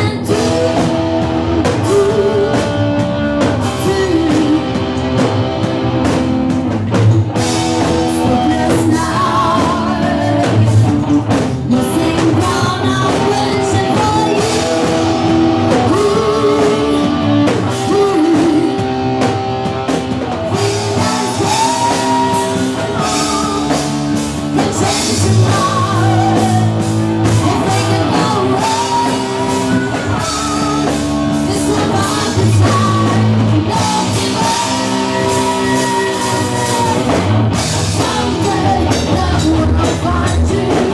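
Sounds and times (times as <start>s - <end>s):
woman singing: 0.0s - 5.2s, 7.8s - 19.3s, 20.5s - 40.9s
bass guitar: 0.0s - 40.9s
drum kit: 0.0s - 40.9s
electric guitar: 0.0s - 40.9s.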